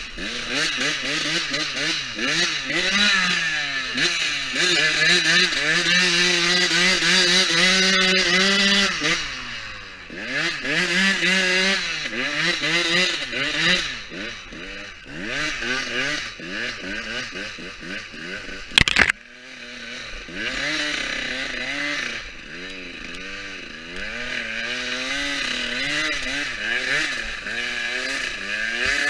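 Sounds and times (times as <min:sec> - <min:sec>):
motocross bike engine revving: 0:00.0 - 0:29.0.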